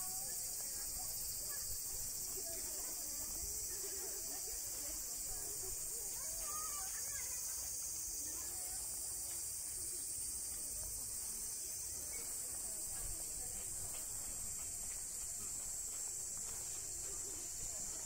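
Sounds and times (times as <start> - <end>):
cicada chorus drone: 0.0 - 18.0
people talking faintly: 0.0 - 18.0.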